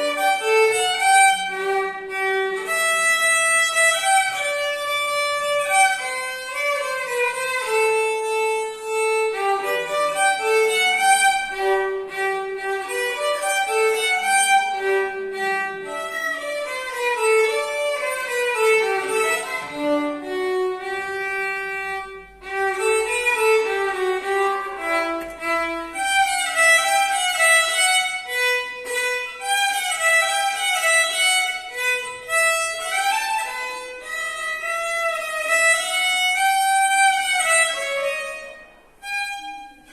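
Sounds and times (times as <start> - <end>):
violin playing quick tune: 0.0 - 38.4.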